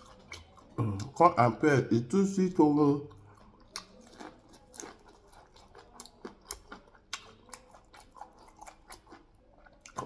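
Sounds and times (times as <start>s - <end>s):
person chewing: 0.0s - 1.4s, 3.0s - 10.0s.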